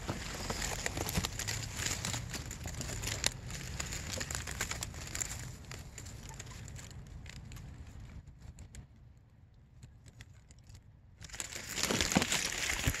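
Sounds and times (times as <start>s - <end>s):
leaves rustling against microphone: 0.0s - 13.0s.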